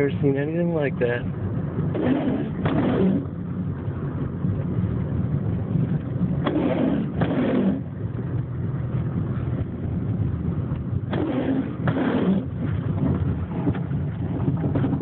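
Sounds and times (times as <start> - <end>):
car engine running: 0.0 - 15.0
strong wind buffeting car: 0.0 - 15.0.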